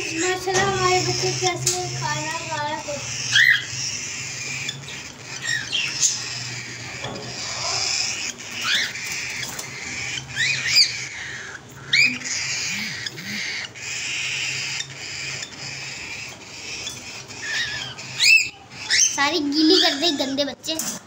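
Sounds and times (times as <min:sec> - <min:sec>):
steady low hum: 0:00.0 - 0:20.7
cockatiels chirping: 0:00.0 - 0:21.0.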